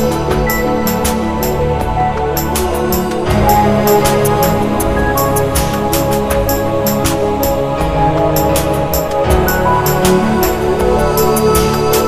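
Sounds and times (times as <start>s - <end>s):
soft background music with light beat: 0.0s - 12.0s.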